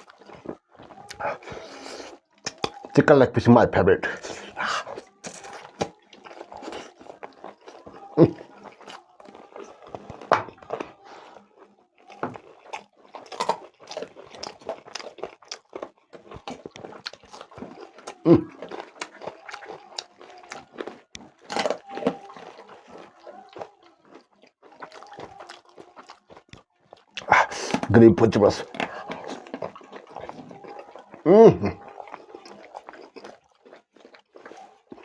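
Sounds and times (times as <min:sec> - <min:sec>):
person chewing and crunching: 0:00.0 - 0:35.0.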